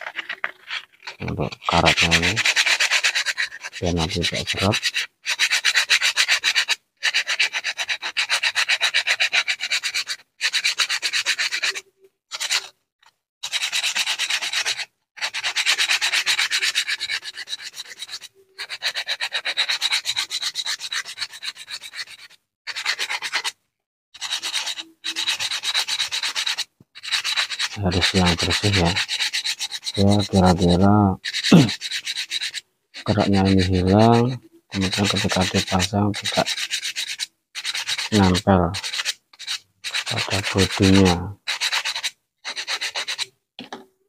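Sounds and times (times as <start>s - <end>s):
sandpaper rubbing on metal: 0.0s - 12.7s, 13.4s - 23.6s, 24.2s - 43.3s.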